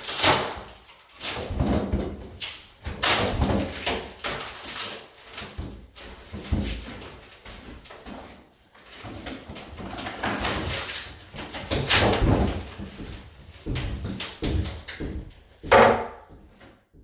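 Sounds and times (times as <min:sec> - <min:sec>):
wood creaking and scraping: 0:00.0 - 0:17.0.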